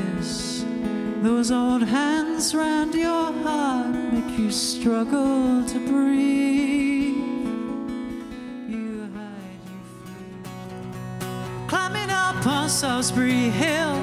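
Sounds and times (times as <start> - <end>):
man singing: 0.0 - 10.4, 11.5 - 14.0
strummed acoustic guitar: 0.0 - 14.0.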